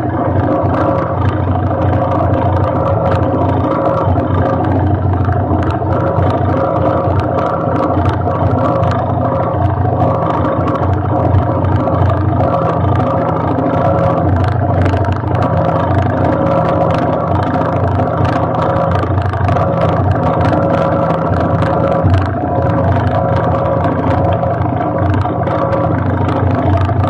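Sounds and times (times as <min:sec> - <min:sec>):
quad bike engine idling: 0:00.0 - 0:27.0.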